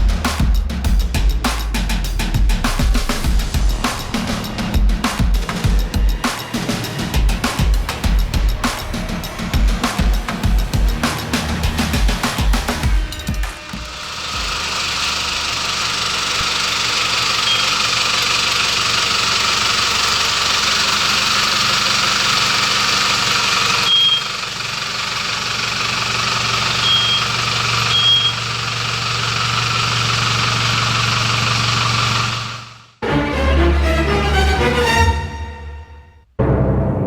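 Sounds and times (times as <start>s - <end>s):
vehicle engine idling: 1.5s - 33.0s.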